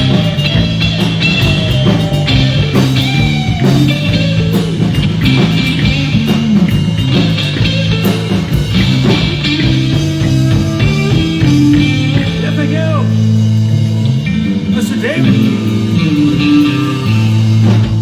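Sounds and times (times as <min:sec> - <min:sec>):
bass guitar: 0:00.0 - 0:18.0
drum kit: 0:00.0 - 0:18.0
electric guitar: 0:00.0 - 0:18.0.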